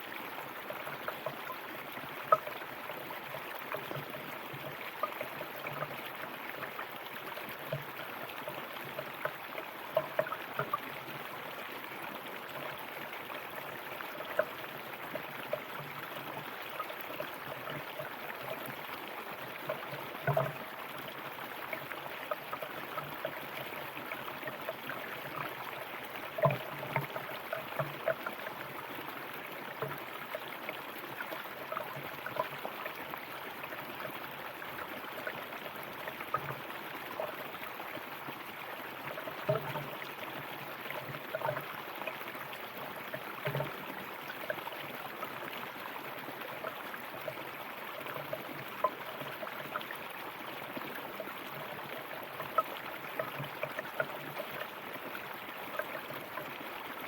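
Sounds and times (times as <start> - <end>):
water gurgles and plops: 0.0 - 57.0.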